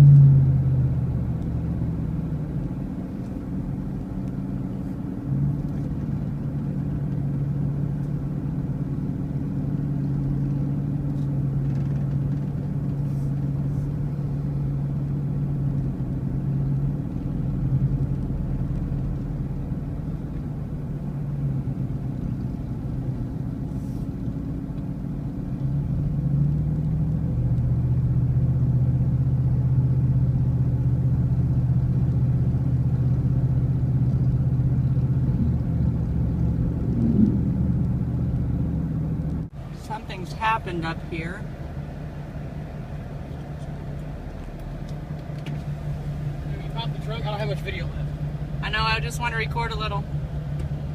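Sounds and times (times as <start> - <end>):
car engine: 0.0 - 50.9
road noise: 0.0 - 50.9.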